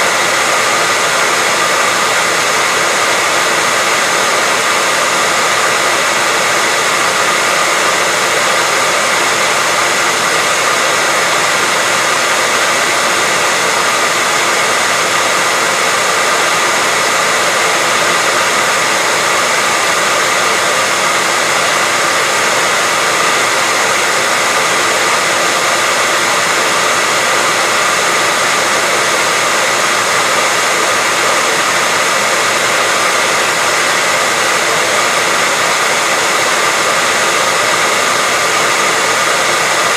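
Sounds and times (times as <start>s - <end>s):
hairdryer running: 0.0s - 39.9s.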